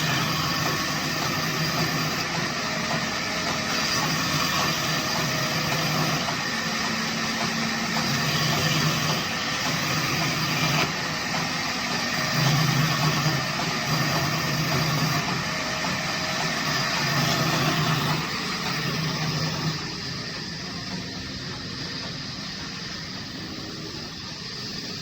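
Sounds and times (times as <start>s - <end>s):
woodworking machine motor humming: 0.0s - 25.0s.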